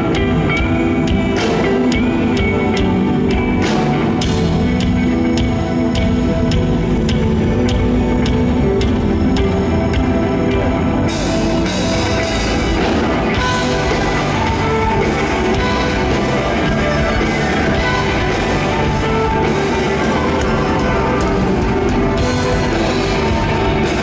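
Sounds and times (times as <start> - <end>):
drum kit and cymbals: 0.0 - 24.0
electric guitar: 0.0 - 24.0
electric violin melody: 0.0 - 24.0.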